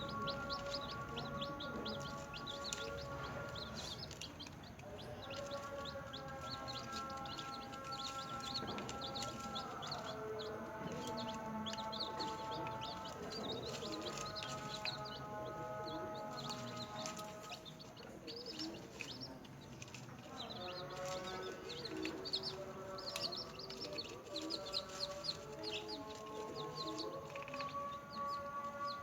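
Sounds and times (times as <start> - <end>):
background music with held notes: 0.0 - 29.0
chicks peeping: 0.0 - 29.0.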